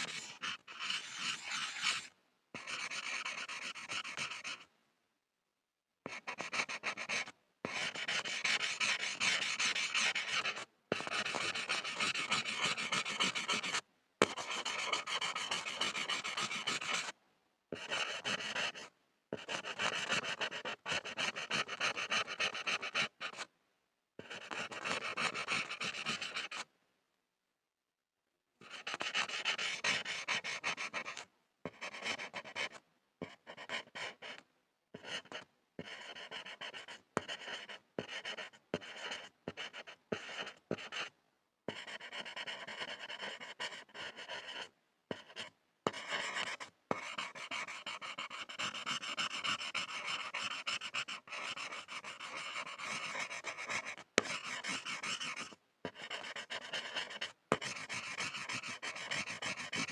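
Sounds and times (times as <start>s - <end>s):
pencil scribbling on a board: 0.0s - 4.7s, 6.1s - 23.5s, 24.2s - 26.7s, 28.6s - 34.4s, 35.0s - 41.1s, 41.7s - 59.9s.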